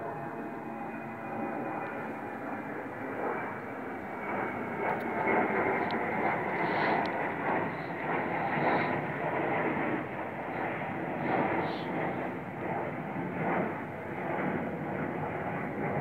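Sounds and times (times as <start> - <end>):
jet airliner rumble overhead: 0.0 - 16.0.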